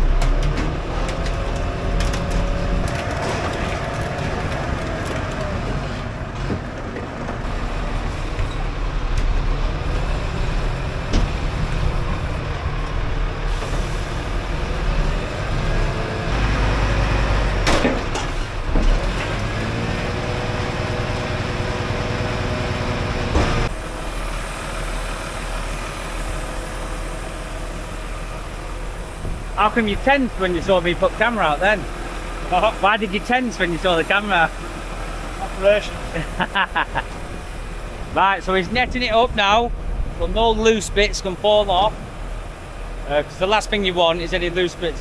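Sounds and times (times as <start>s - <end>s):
heavy diesel machinery running: 0.0s - 45.0s.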